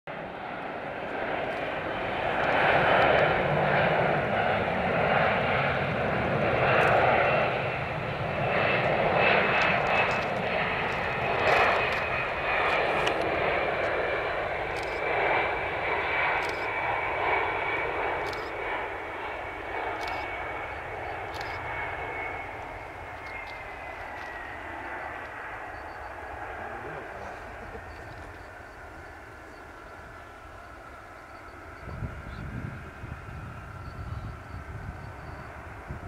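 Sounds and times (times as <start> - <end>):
jet engines rumbling with whine: 0.1 - 36.0.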